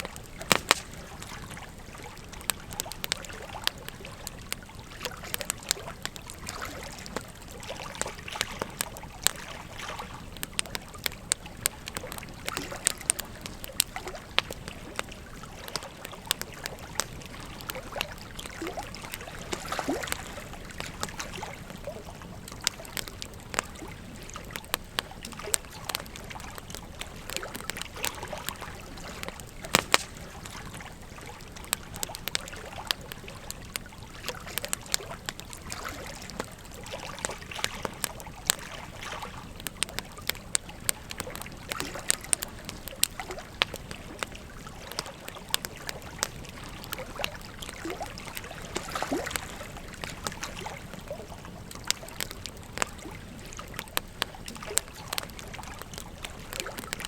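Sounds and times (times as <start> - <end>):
flowing river: 0.0 - 57.0
wood fire crackling and popping: 0.0 - 57.0.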